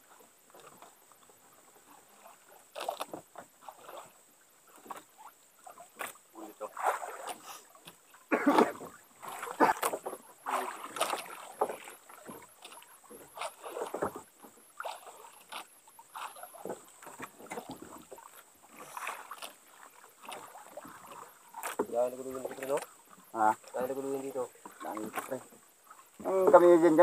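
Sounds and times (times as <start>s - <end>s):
water splashing against boat hull: 0.0s - 27.0s.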